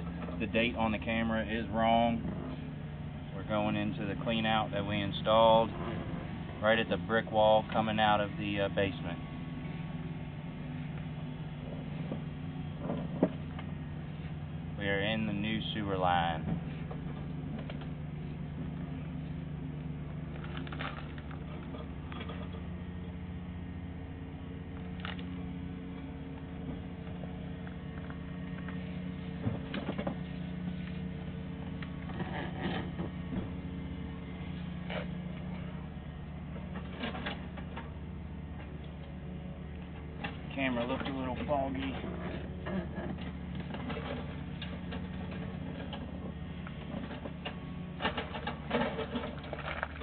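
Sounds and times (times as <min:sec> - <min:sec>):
steady electrical hum: 0:00.0 - 0:50.0.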